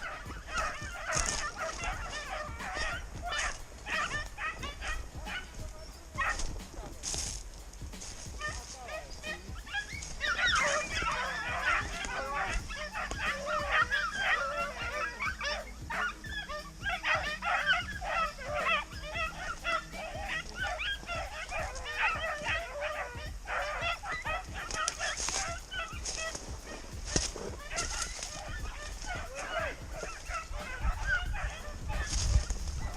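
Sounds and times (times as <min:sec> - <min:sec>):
hounds baying and yelping: 0:00.0 - 0:32.9.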